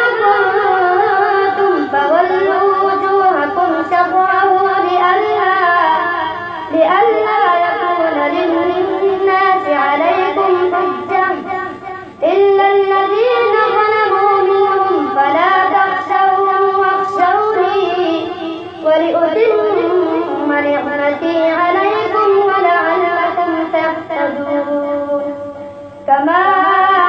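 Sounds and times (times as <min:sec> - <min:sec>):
boy chanting melodically: 0:00.0 - 0:27.0.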